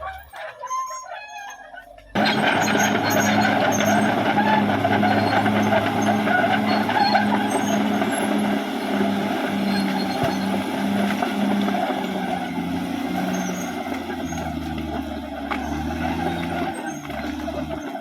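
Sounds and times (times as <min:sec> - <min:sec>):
bulldozer diesel engine running: 0:01.7 - 0:18.0.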